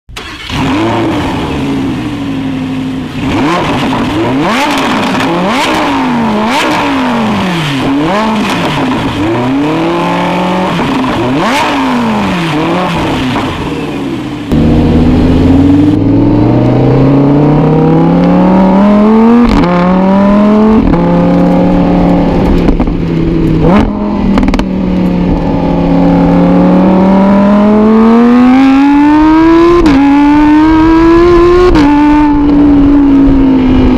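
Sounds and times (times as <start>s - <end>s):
sports car engine revving: 0.2s - 33.9s.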